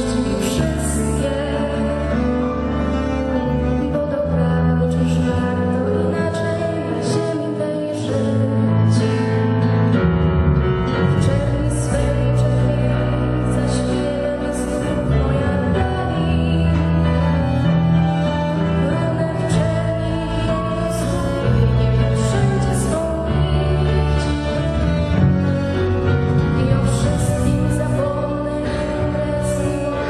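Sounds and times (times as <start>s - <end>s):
bowed cello: 0.0s - 30.0s.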